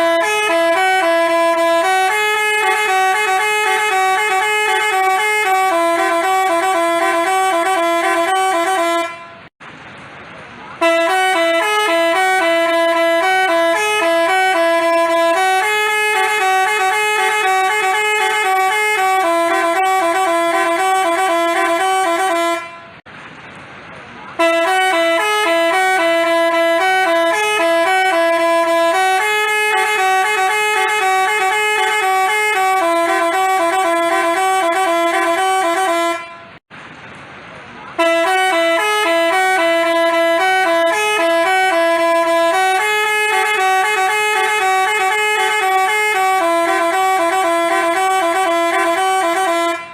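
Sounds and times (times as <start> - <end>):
multi-tone musical horn tune: 0.0 - 9.5, 10.8 - 23.0, 24.4 - 36.6, 38.0 - 49.9.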